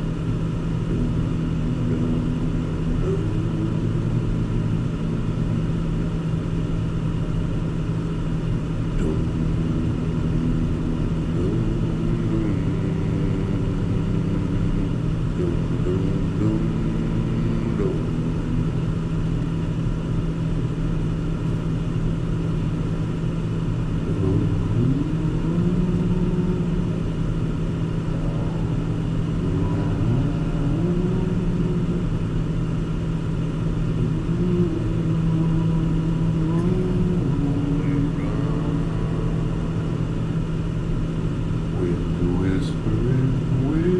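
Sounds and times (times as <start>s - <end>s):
car engine humming: 0.0s - 43.9s
road noise inside car: 0.0s - 43.9s.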